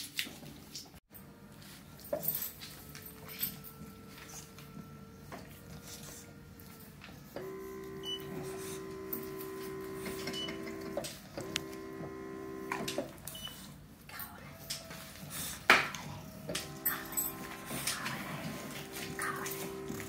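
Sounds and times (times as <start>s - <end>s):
foot massager motor hum: 1.2s - 13.8s, 14.6s - 20.0s.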